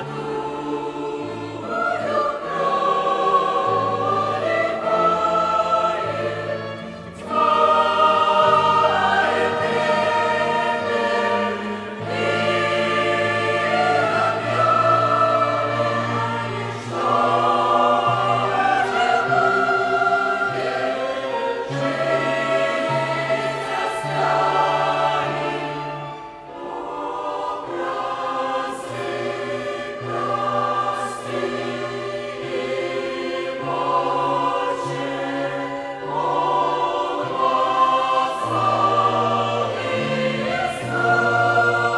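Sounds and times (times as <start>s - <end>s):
choir singing a hymn: 0.0s - 41.9s
violin ensemble: 0.0s - 41.9s.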